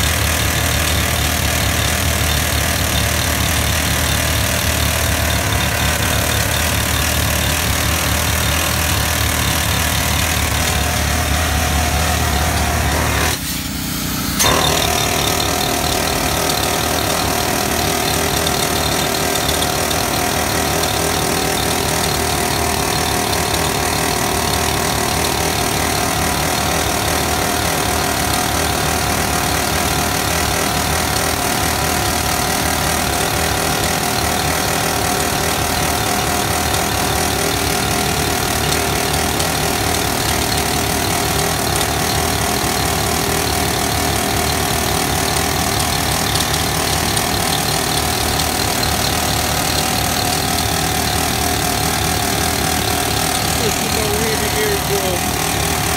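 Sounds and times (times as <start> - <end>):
jackhammer hammering concrete: 0.0 - 55.9.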